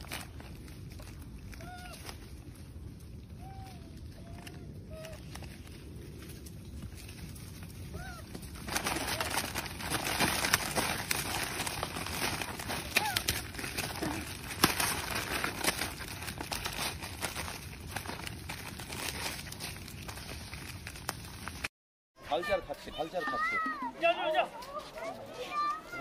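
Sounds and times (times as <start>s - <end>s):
rustling scuffling noise: 0.0s - 26.0s.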